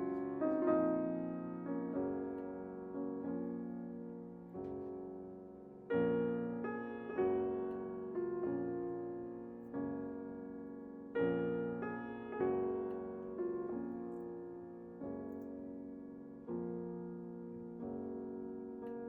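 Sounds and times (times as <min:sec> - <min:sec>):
gentle solo piano music: 0:00.0 - 0:19.0.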